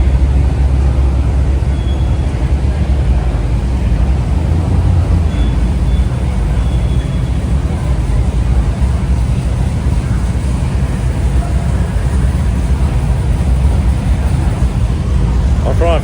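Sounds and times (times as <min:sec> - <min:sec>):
car engines running: 0:00.0 - 0:16.0.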